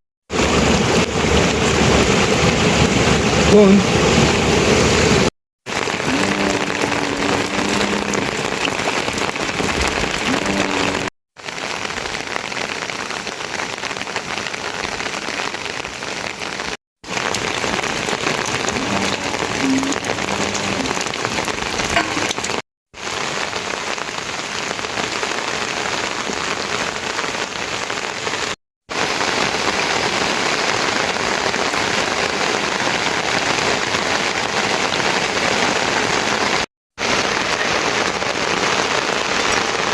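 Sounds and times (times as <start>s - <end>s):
heavy rain falling: 0.3s - 39.9s.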